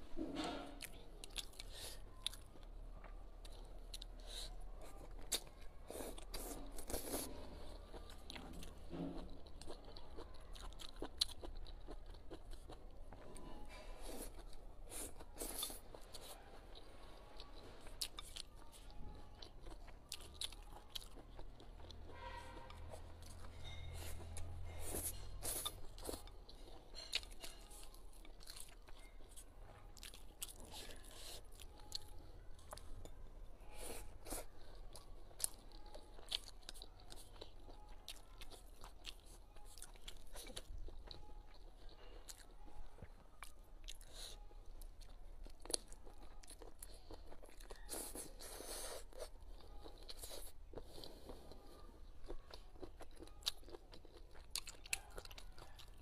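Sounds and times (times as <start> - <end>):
chewing with mouth clicks: 0.8 - 56.0.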